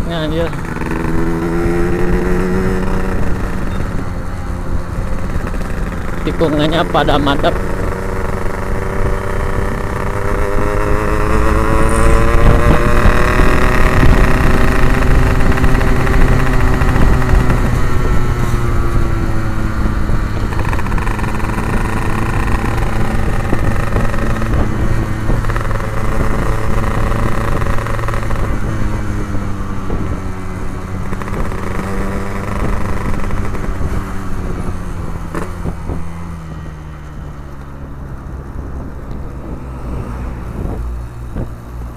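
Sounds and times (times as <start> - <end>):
motorcycle two-stroke engine revving: 0.0 - 41.9.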